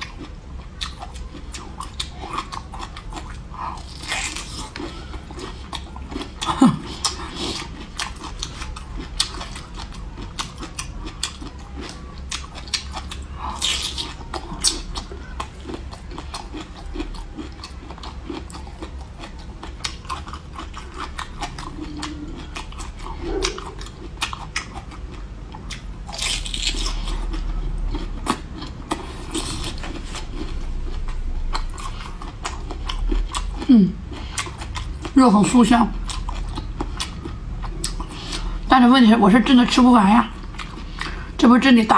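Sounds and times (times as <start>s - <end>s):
moist crunchy chewing: 0.0s - 35.2s, 35.9s - 38.7s, 40.3s - 41.3s.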